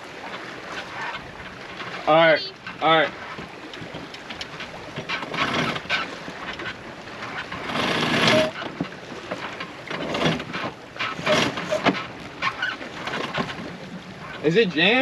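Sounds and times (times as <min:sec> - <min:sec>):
boat gear squeaks: 0:00.1 - 0:15.0
boat gear clicks and knocks: 0:00.2 - 0:14.5.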